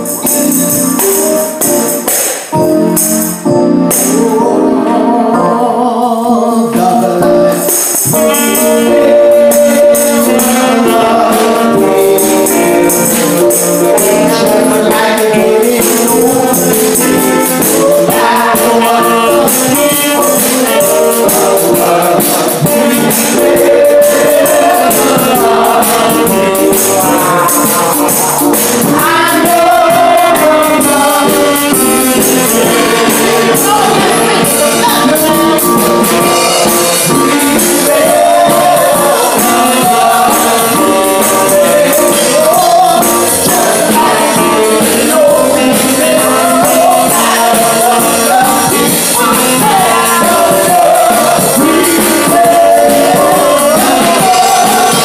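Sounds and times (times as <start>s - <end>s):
tambourine rhythm: 0.0s - 5.5s, 6.7s - 55.0s
gospel singing with instruments: 0.0s - 55.0s.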